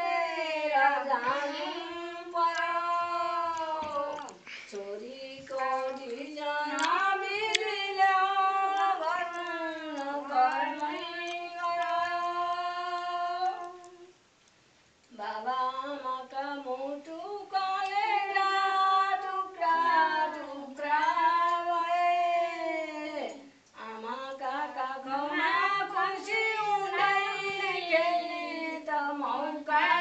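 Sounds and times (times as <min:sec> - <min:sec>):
women singing unaccompanied: 0:00.0 - 0:14.2, 0:15.1 - 0:30.0.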